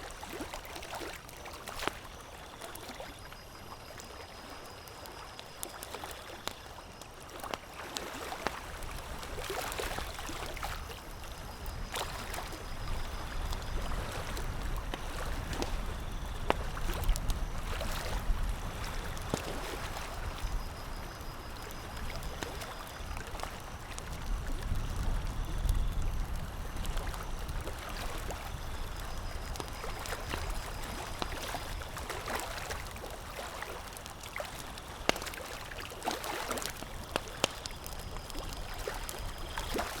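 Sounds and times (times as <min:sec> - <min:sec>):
campfire crackling: 0:00.1 - 0:40.0.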